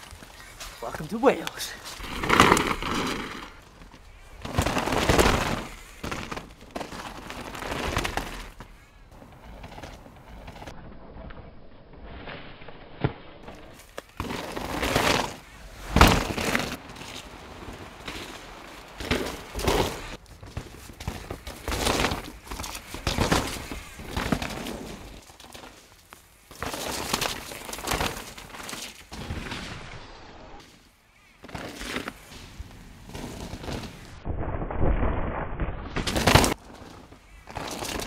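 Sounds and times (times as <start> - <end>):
bike tyres scrubbing through dirt: 0.0 - 10.7, 13.4 - 34.2, 36.0 - 38.0.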